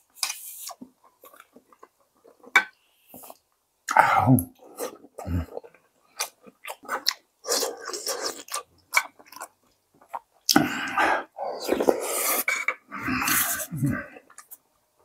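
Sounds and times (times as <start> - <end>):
person chewing soft dough: 0.0 - 2.6, 4.6 - 14.6.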